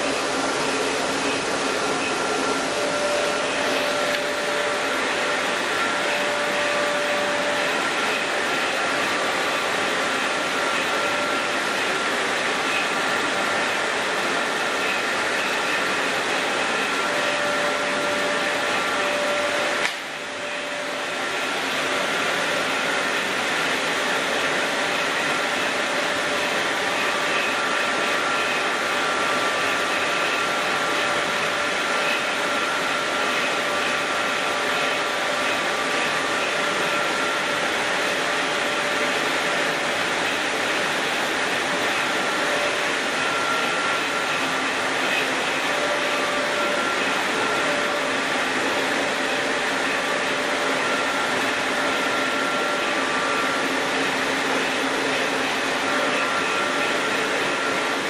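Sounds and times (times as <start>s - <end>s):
milling machinery running: 0.0s - 58.0s.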